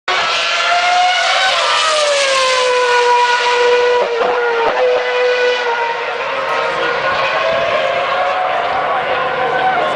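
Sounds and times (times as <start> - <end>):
racing car engine whine passing: 0.1 - 9.9.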